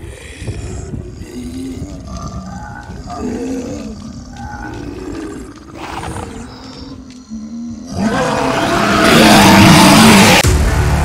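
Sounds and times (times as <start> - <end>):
monster roars and growls: 0.0 - 10.5.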